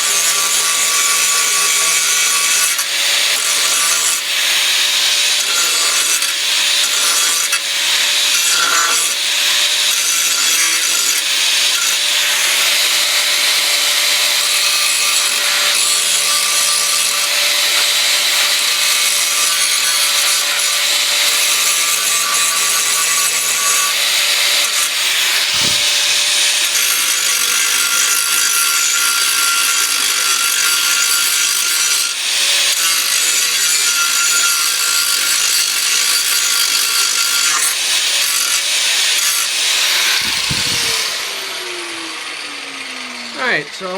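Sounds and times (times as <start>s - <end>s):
angle grinder grinding steel: 0.0s - 43.9s.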